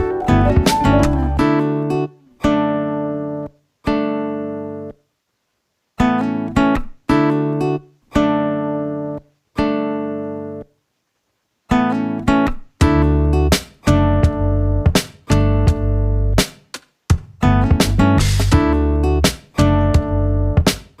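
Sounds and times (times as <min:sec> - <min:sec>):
acoustic guitar chords: 0:00.0 - 0:05.0, 0:06.0 - 0:10.7, 0:11.7 - 0:16.4, 0:17.2 - 0:21.0.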